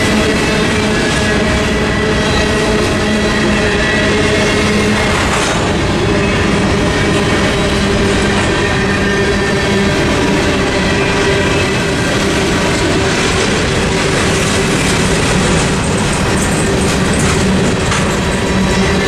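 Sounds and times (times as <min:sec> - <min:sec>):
clickety-clack over rail joints: 0:00.0 - 0:19.0
train wheels rumbling: 0:00.0 - 0:19.0.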